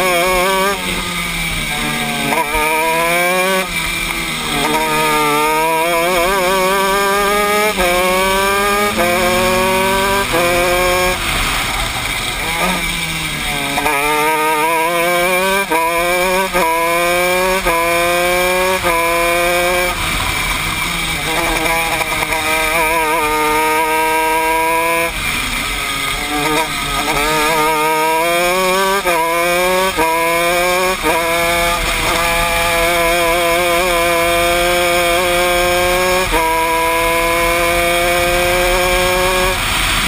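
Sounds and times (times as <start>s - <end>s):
kart engine revving: 0.0s - 40.0s.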